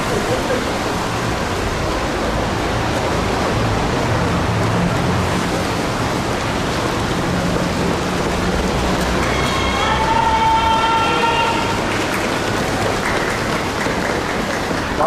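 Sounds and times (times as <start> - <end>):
crowd noise: 0.0 - 15.0
runners' footsteps: 0.0 - 15.0.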